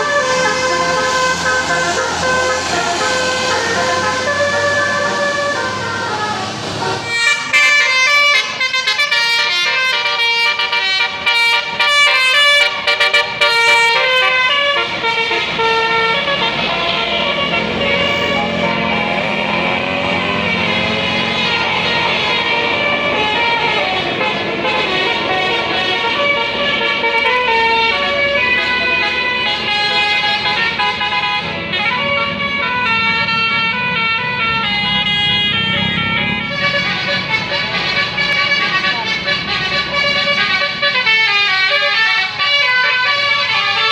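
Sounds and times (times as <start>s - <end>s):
musical air horn playing a tune: 0.0s - 43.9s
vehicle engine and road noise: 0.0s - 43.9s.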